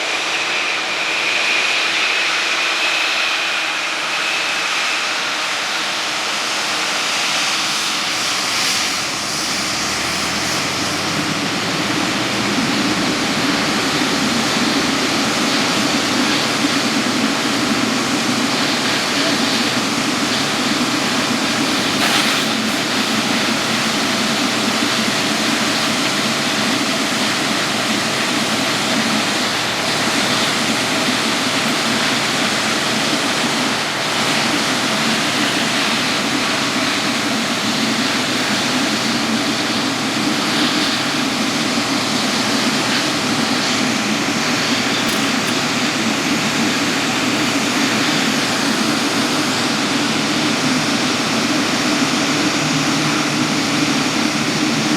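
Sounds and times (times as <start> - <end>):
jet engine rushing: 0.0 - 54.9.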